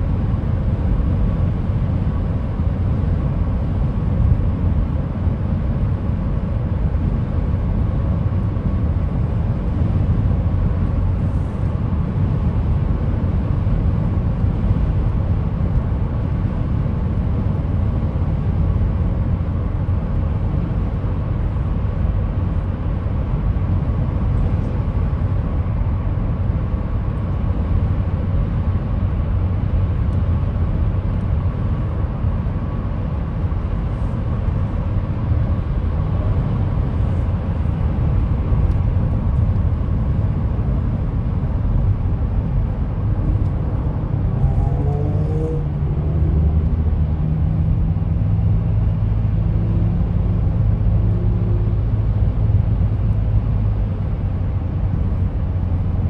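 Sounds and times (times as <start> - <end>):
tyre and engine rumble: 0.0 - 56.0.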